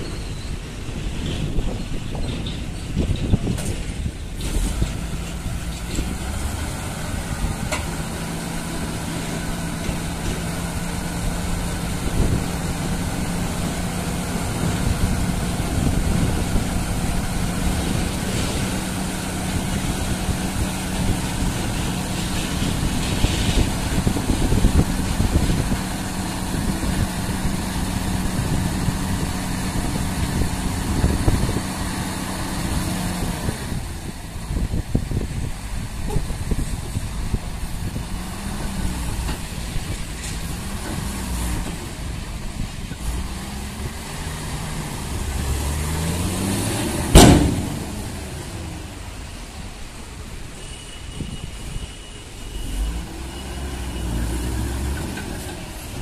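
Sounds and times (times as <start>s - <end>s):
diesel engine running: 0.0s - 50.5s.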